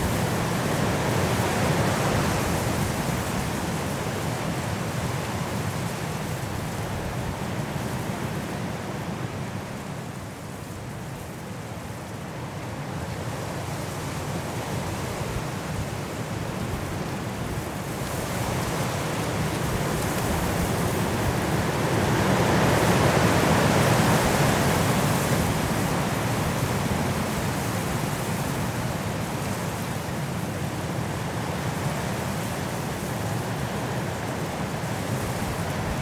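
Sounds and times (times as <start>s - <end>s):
strong wind through trees: 0.0s - 36.0s.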